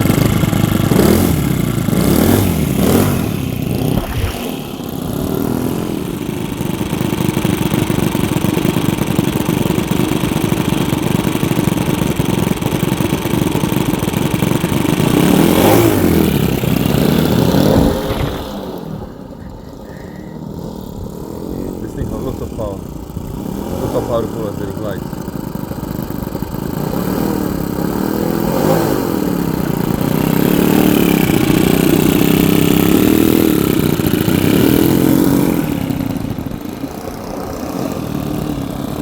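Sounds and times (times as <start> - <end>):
model airplane engines running: 0.0 - 39.0.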